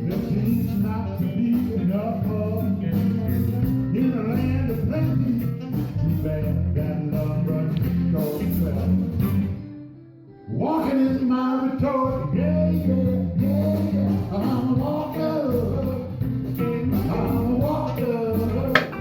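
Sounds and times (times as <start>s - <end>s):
rock blues song with guitar: 0.0s - 19.0s.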